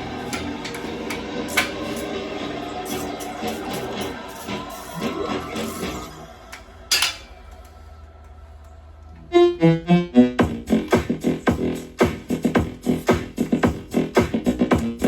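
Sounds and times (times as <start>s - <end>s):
electronic music: 0.0s - 6.8s, 9.2s - 15.0s.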